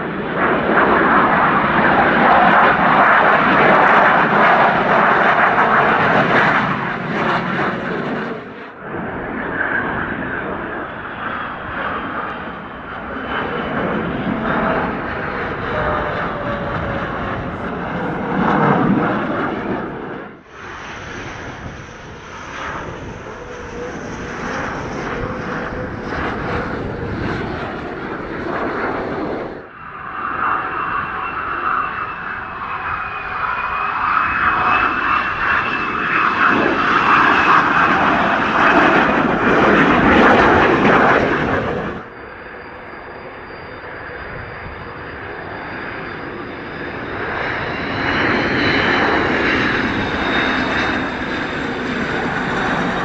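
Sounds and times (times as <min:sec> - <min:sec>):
fighter jets flying past: 0:00.0 - 0:53.0
jet whine falling in pitch: 0:00.2 - 0:53.0.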